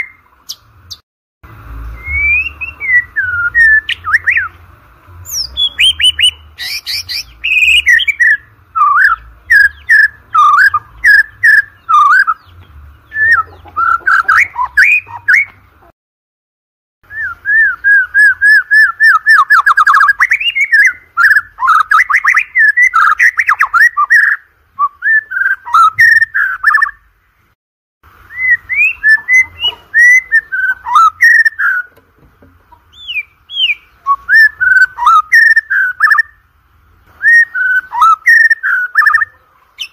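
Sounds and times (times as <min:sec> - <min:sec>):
songbird whistles and trills: 0:01.8 - 0:04.6, 0:05.2 - 0:15.6, 0:17.1 - 0:27.1, 0:28.1 - 0:39.9.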